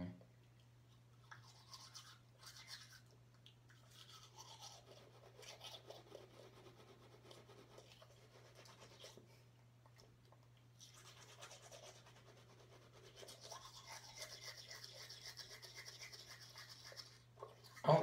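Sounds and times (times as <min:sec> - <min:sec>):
toothbrush scrubbing teeth: 0:01.0 - 0:09.4, 0:10.8 - 0:18.0.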